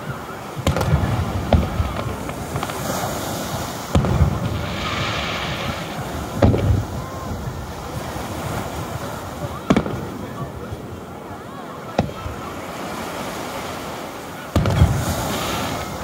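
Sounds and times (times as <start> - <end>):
fireworks booming: 0.5 - 11.2, 11.9 - 12.7, 14.5 - 16.0.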